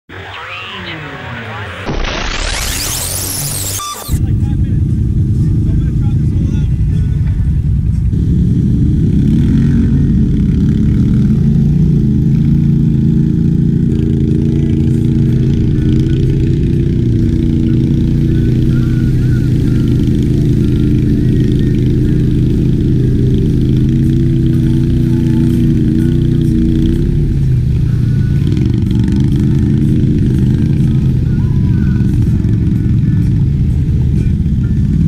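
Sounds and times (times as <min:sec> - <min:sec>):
atv engine revving: 0:04.1 - 0:35.0.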